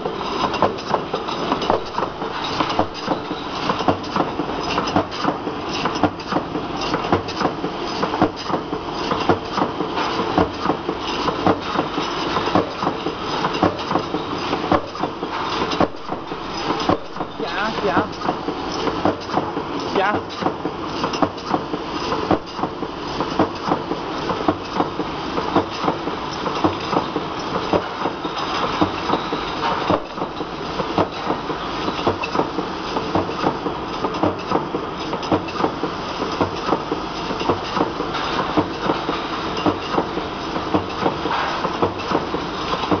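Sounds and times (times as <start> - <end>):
machine steady mechanical noise: 0.0 - 43.0.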